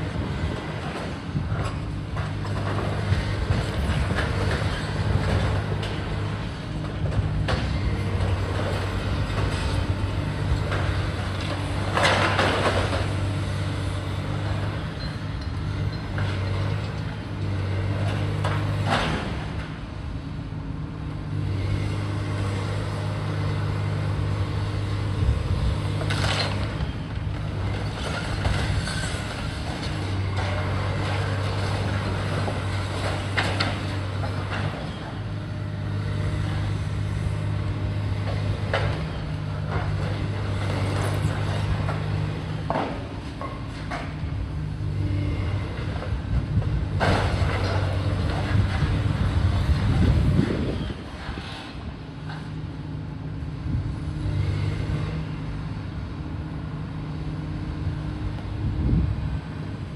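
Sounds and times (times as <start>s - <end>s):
diesel demolition machinery running: 0.0s - 59.9s.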